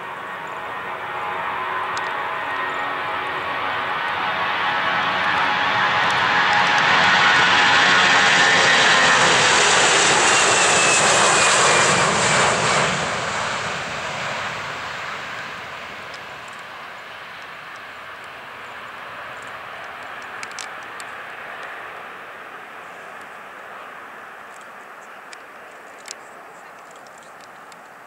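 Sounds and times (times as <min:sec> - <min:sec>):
jet airliner roar: 0:00.0 - 0:28.0.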